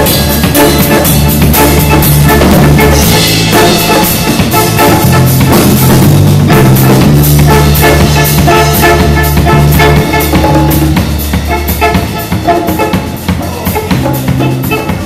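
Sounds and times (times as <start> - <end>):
live band playing reggae: 0.0 - 15.0
low bass notes: 0.0 - 15.0.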